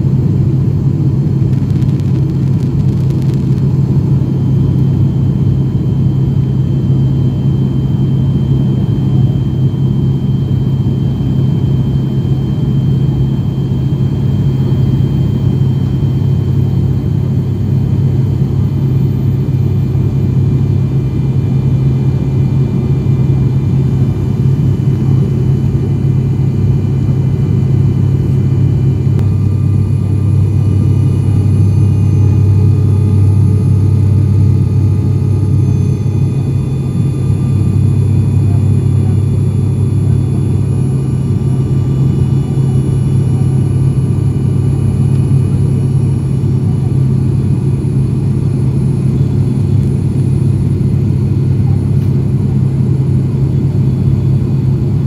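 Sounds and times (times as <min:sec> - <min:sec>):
turboprop engines droning: 0:00.0 - 0:55.0.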